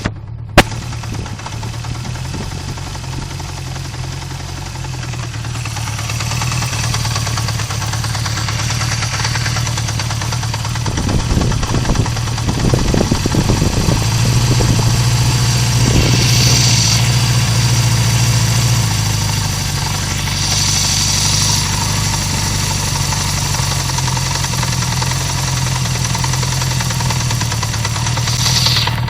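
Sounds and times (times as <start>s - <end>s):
engine knocking: 0.0s - 29.0s
motorcycle engine idling: 0.0s - 29.0s.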